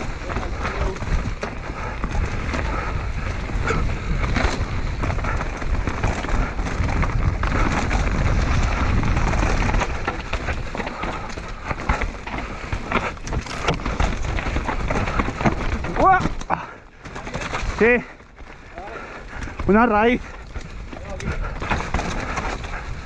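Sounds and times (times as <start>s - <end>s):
bike rattling clicks and knocks: 0.0s - 23.0s
bike tyres crunching over stones: 0.0s - 23.0s.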